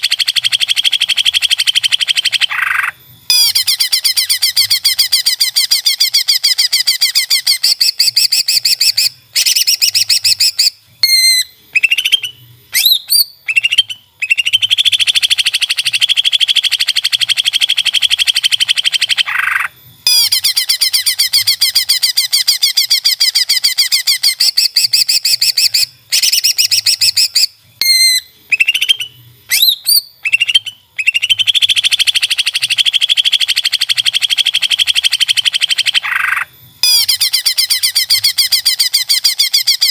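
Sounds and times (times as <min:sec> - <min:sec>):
bird song trills and whistles: 0:00.0 - 0:39.9.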